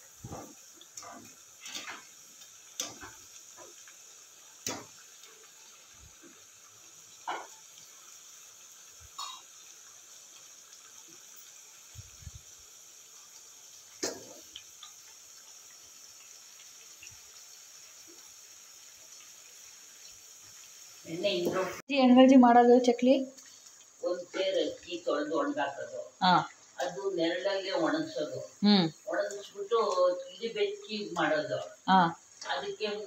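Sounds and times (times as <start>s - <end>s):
food deep-frying in hot oil: 0.0s - 33.0s.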